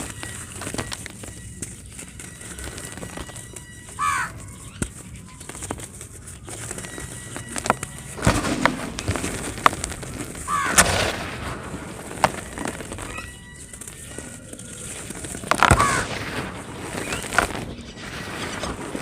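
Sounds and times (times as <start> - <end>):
bird chirp: 0.0 - 19.0
cement chunks crumbling and cracking: 0.0 - 19.0.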